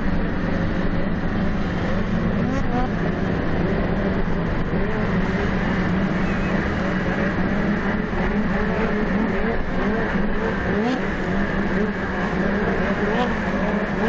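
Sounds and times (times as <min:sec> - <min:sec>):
snowmobile engines racing: 0:00.0 - 0:14.0.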